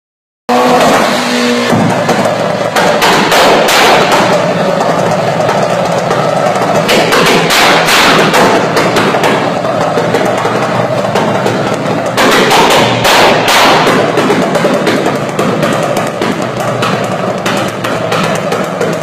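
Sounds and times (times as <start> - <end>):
car exhaust popping and banging: 0.5 - 19.0.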